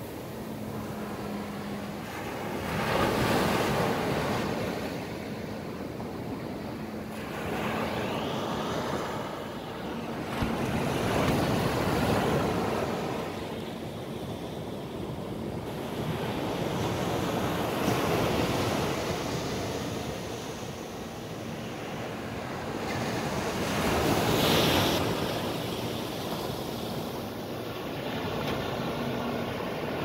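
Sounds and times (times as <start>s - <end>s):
waves washing on sandy beach: 0.0s - 30.0s.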